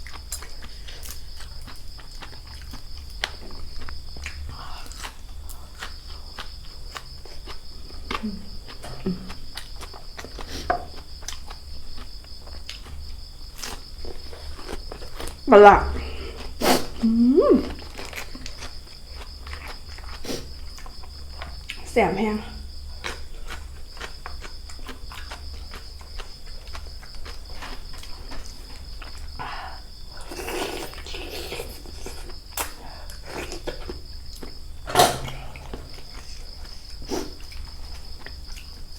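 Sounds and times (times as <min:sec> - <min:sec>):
chewing crunches: 0:00.0 - 0:15.5, 0:17.6 - 0:21.8, 0:22.7 - 0:29.4, 0:30.1 - 0:38.9
insect trill: 0:00.0 - 0:38.9.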